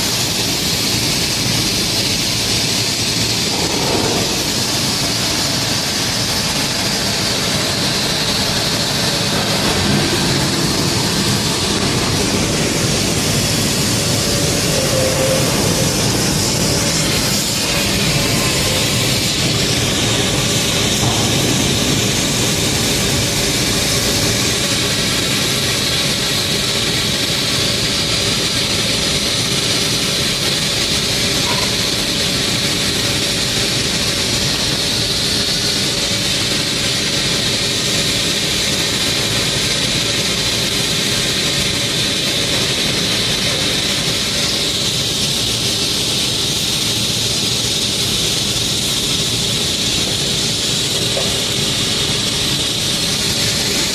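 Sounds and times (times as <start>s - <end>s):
welding arc hissing: 0.0s - 53.9s.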